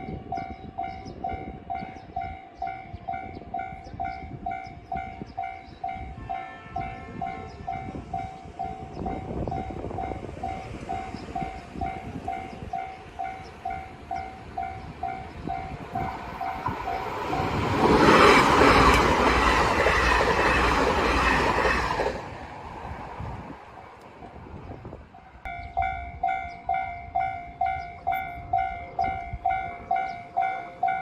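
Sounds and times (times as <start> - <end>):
railroad crossing bell ringing: 0.0 - 20.9, 25.2 - 31.0
train passing loudly: 0.0 - 31.0.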